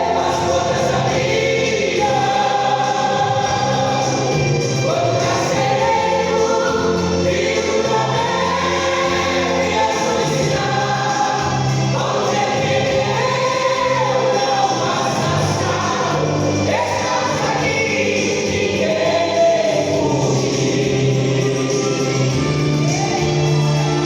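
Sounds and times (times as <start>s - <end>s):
instrumental backing with bass: 0.0s - 24.0s
vocal group singing gospel: 0.0s - 24.0s.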